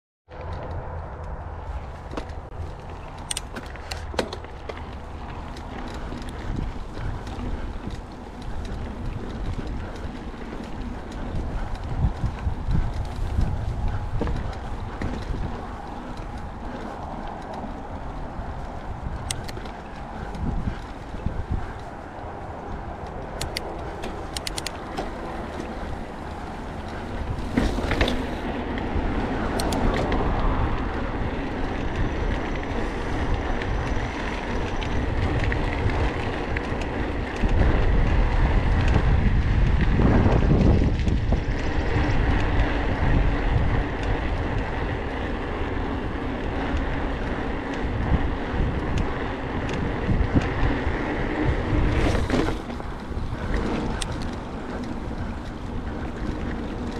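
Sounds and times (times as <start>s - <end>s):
bike clicks: 0.3s - 56.9s
bike tyres rolling: 0.3s - 56.9s
wind buffeting microphone: 0.3s - 56.9s.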